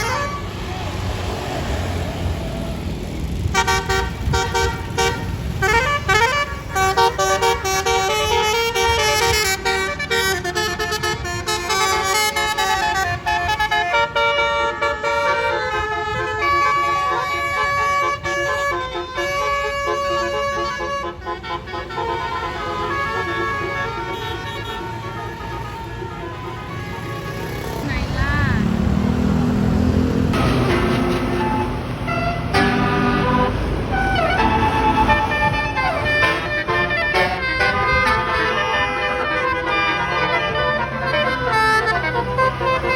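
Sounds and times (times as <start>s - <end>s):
multi-note bus air horn melody: 0.0s - 0.6s, 3.5s - 27.7s, 30.4s - 42.9s
engines and traffic running: 0.0s - 42.9s.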